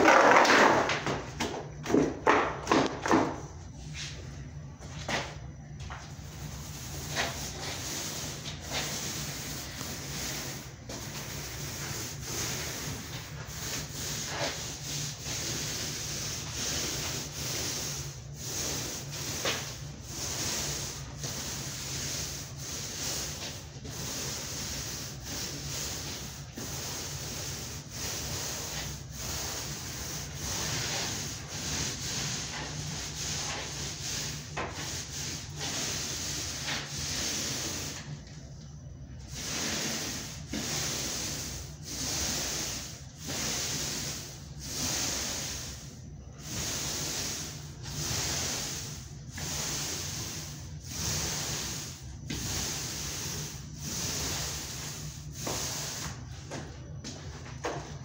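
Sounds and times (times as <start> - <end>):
paint roller rubbing hiss: 0.0 - 58.0.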